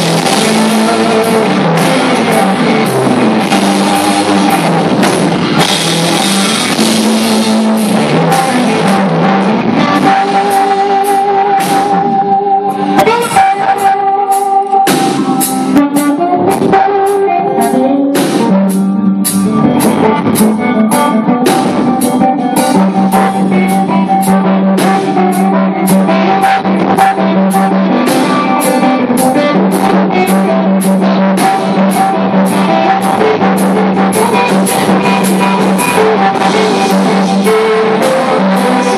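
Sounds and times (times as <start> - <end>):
drum kit steady beat: 0.0 - 38.9
electric guitar lead: 0.0 - 38.9.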